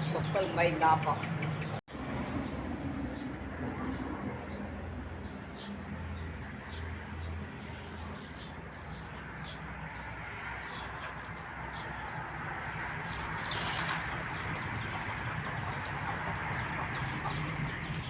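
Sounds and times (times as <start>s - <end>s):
birds chirping: 0.0s - 1.8s, 3.0s - 18.0s.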